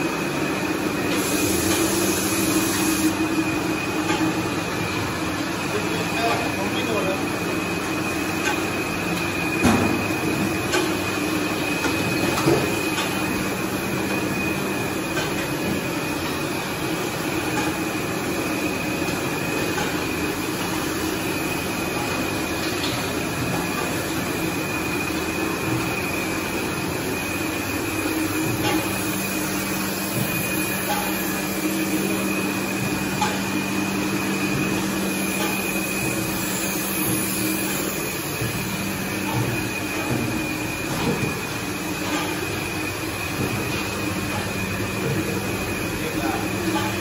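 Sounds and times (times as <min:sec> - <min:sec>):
bottling machinery humming and whining: 0:00.0 - 0:47.0.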